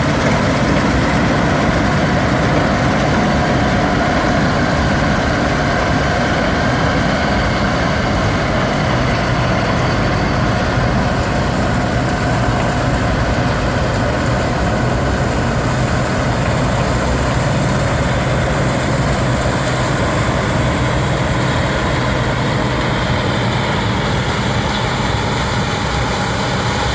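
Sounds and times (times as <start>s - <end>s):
combine harvester engine drone: 0.0s - 26.9s.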